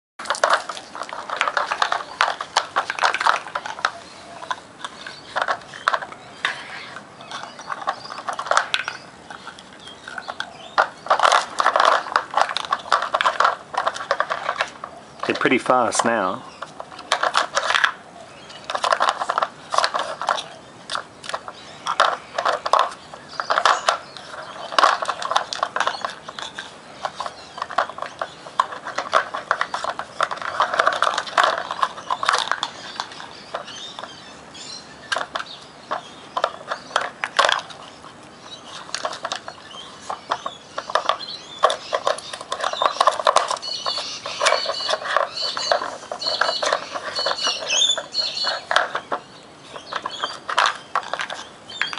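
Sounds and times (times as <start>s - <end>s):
plastic puzzle pieces clattering on brick: 0.2s - 18.0s, 18.6s - 34.3s, 35.0s - 51.9s
bird chirping: 0.2s - 51.9s.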